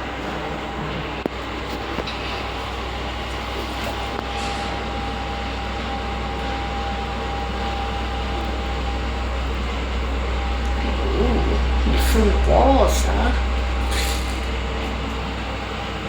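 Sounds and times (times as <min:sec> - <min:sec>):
lift car humming and rushing: 0:00.0 - 0:16.0
thin steady whine: 0:00.0 - 0:16.0.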